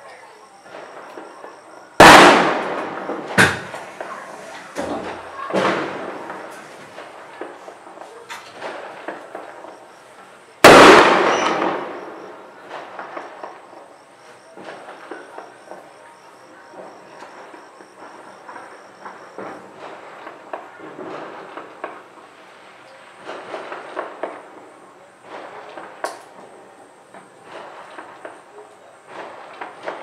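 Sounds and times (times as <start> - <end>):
smaller firecracker bangs: 0.6 - 10.0, 10.6 - 30.0
loud firecracker bangs: 0.6 - 30.0
distant firecracker pops: 0.7 - 9.9, 10.6 - 22.4, 23.2 - 30.0.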